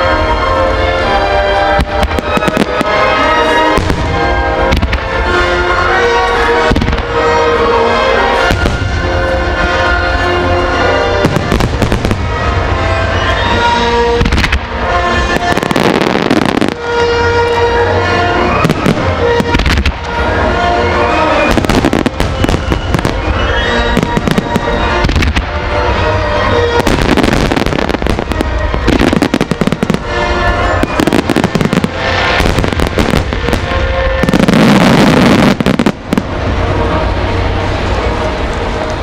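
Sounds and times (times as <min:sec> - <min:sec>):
music with sustained tones: 0:00.0 - 0:39.0
fireworks bursting: 0:00.9 - 0:39.0.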